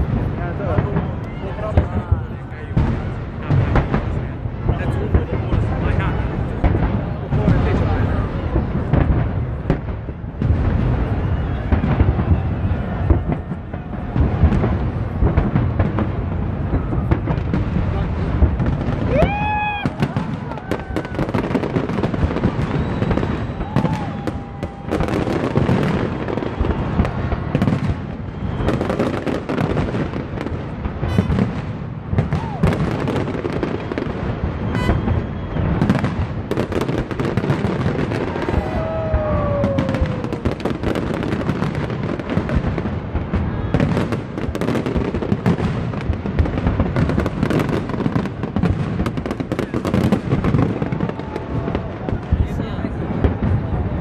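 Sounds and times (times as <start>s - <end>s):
firework crackling: 0.0s - 54.0s.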